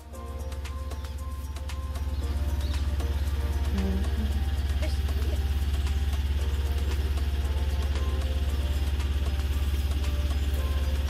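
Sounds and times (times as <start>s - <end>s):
background music: 0.0s - 11.0s
vehicle engine idling: 0.0s - 11.0s.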